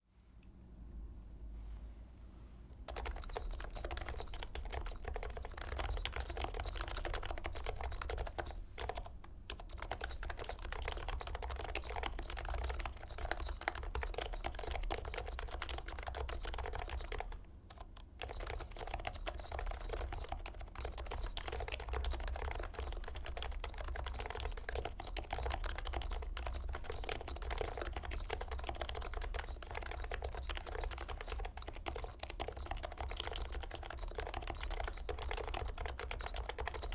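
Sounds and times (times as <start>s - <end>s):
keyboard typing: 2.9s - 36.9s.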